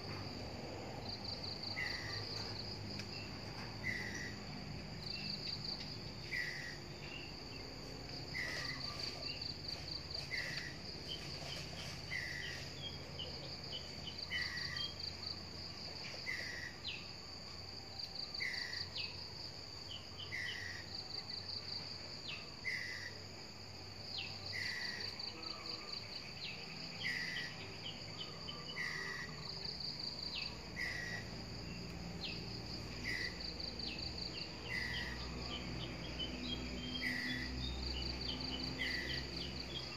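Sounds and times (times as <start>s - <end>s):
insects chirping in trills: 0.0s - 39.9s.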